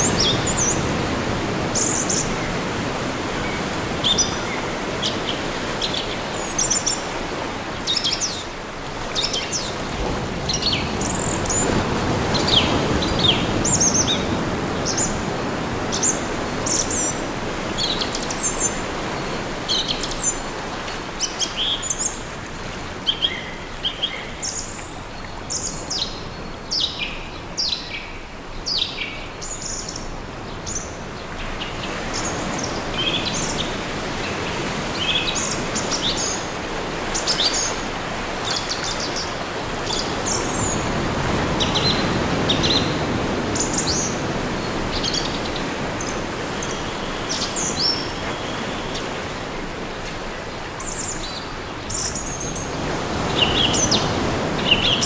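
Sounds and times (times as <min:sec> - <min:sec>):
gentle waves on a beach: 0:00.0 - 0:55.0.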